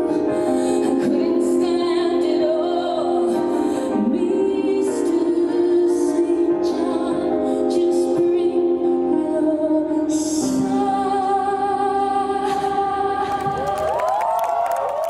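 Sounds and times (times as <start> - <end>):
woman singing slow song: 0.0 - 14.2.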